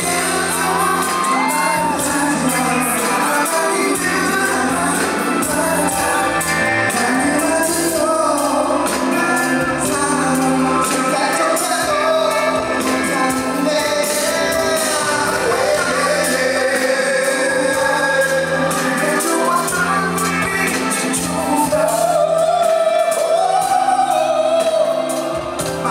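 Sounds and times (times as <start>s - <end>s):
amplified band music: 0.0s - 25.9s
person singing: 0.0s - 25.9s.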